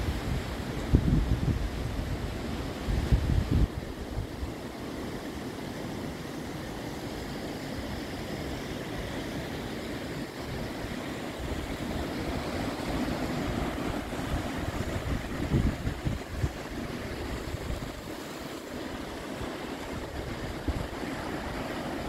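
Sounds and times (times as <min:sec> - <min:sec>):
surf breaking against cliffs: 0:00.0 - 0:22.0
wind: 0:00.0 - 0:22.0.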